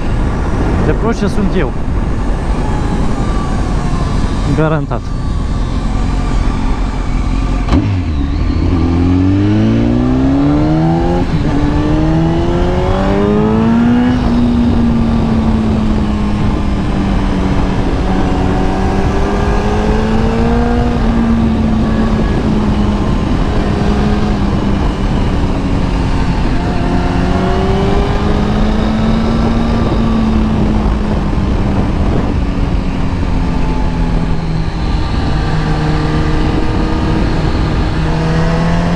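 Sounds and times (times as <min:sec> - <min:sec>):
wind rush: 0:00.0 - 0:38.9
motorcycle engine revving: 0:01.8 - 0:38.9.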